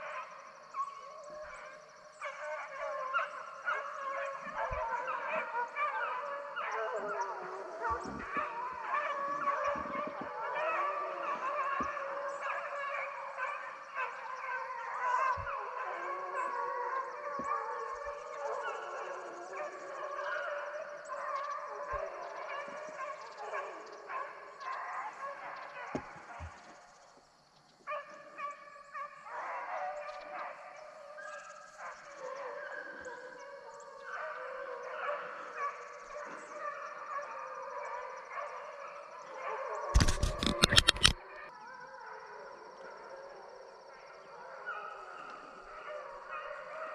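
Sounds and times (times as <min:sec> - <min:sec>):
hounds baying and howling: 0:00.0 - 0:46.9.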